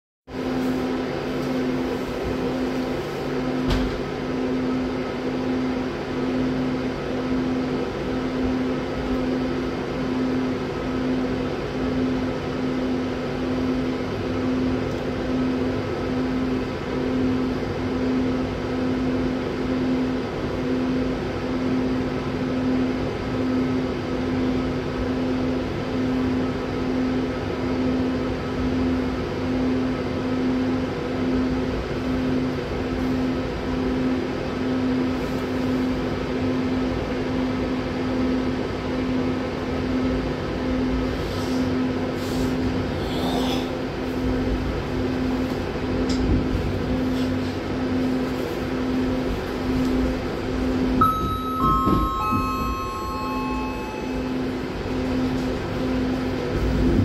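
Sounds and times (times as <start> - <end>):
electric train running hum: 0.3 - 57.0.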